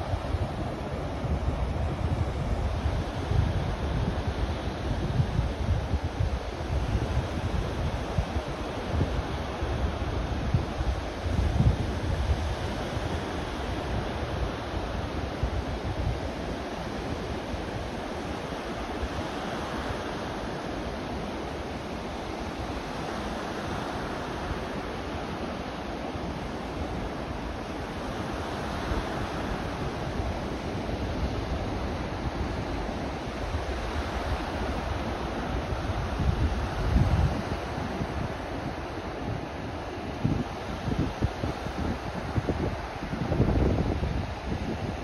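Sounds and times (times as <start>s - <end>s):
surf washing up beach: 0.0s - 45.0s
wind rumbling on microphone: 0.0s - 45.0s.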